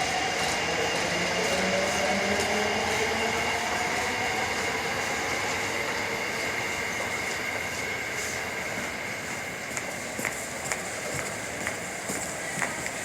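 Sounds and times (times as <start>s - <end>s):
subway train motor whine: 0.0s - 13.0s
wheel and rail noise: 0.0s - 13.0s.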